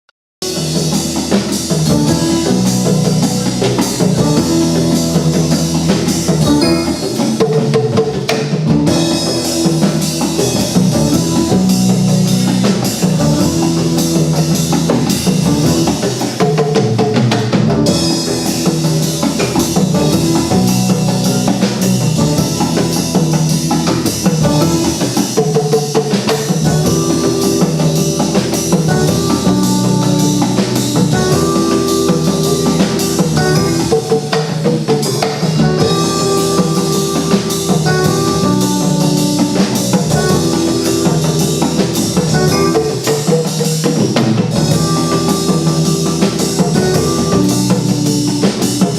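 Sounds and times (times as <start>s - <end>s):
instrumental music with drum kit: 0.4s - 48.9s.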